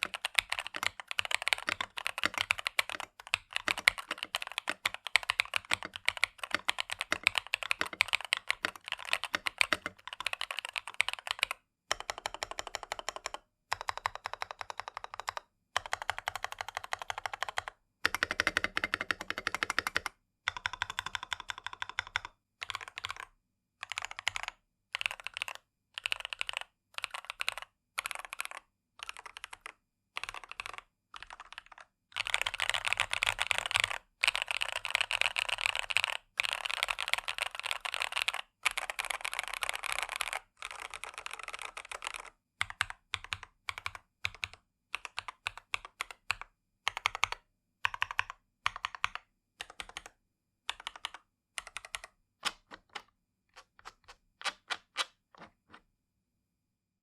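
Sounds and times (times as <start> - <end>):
mechanical keyboard typing: 0.0 - 55.8.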